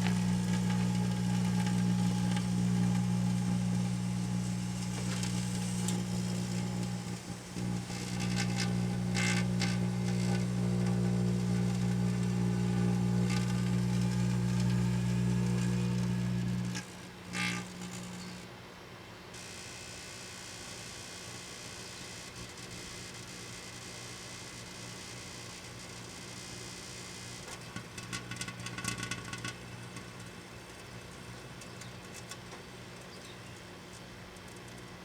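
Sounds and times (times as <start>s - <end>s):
microwave oven humming: 0.0s - 35.0s.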